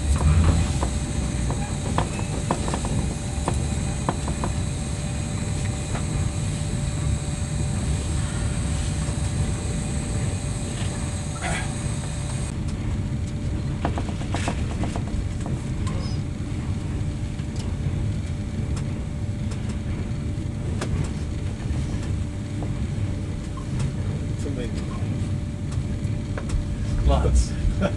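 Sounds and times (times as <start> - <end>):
faint hum: 0.0 - 27.9
train rumble inside carriage: 0.0 - 27.9.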